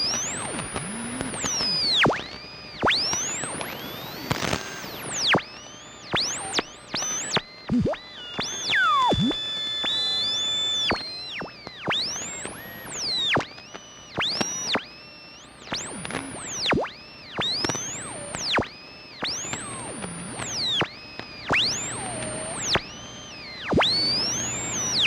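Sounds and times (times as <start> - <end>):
radio static hiss: 0.0 - 25.0
radio tuning whistles: 0.0 - 25.0.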